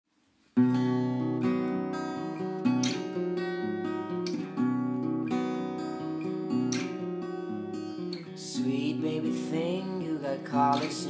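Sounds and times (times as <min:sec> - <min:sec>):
acoustic guitar strumming chords: 0:00.5 - 0:11.0.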